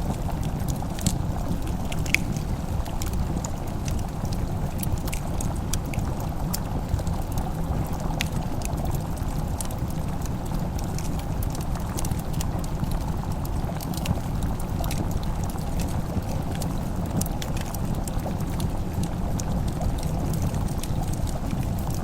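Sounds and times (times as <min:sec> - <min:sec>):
low rumbling hiss of fire: 0:00.0 - 0:22.0
wood fire crackling: 0:00.0 - 0:22.0.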